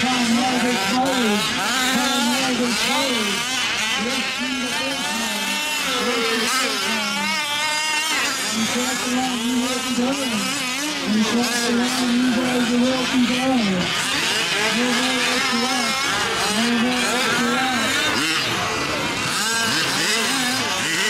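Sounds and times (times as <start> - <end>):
small two-stroke engines revving: 0.0 - 21.0.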